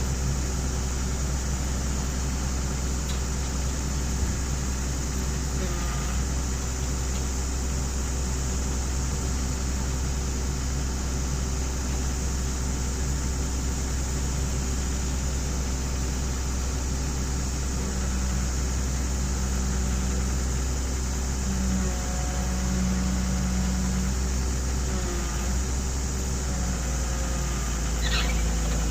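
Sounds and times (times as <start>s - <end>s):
excavator engine humming: 0.0s - 28.9s.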